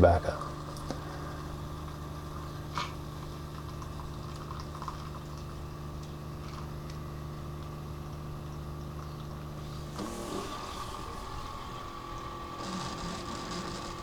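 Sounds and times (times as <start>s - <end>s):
coffee maker pump humming: 0.0s - 14.0s.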